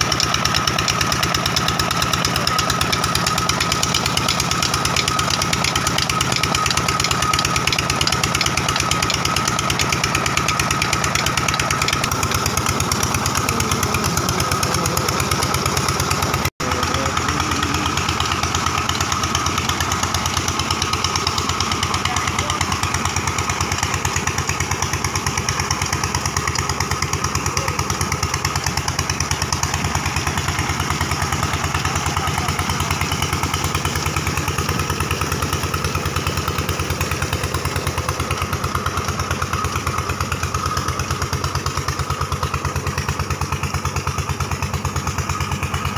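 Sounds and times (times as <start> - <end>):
diesel engine running: 0.0 - 45.9
water splashing from pipe: 0.0 - 45.9.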